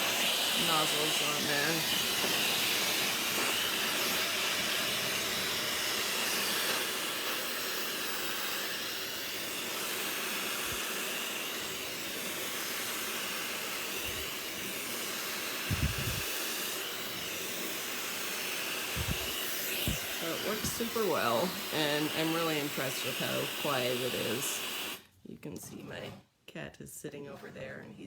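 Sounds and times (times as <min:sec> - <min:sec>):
hair dryer airflow hiss: 0:00.0 - 0:25.1.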